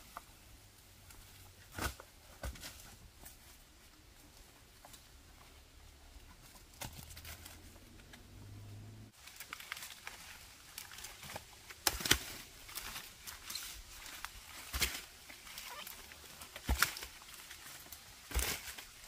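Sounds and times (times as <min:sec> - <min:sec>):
rustling and crinkling: 0:00.0 - 0:08.4, 0:09.1 - 0:19.0.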